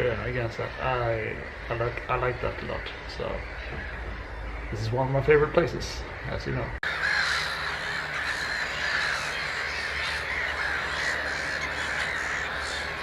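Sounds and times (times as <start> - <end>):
gulls crying: 0.0 - 13.0.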